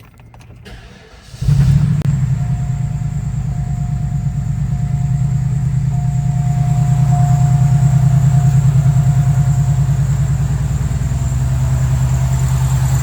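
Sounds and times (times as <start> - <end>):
car engine starting and idling: 0.6 - 13.0
faint steady whine: 2.1 - 13.0.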